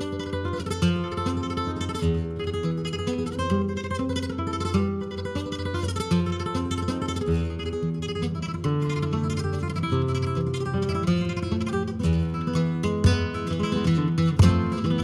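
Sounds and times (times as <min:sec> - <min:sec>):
flamenco guitar playing: 0:00.0 - 0:15.0.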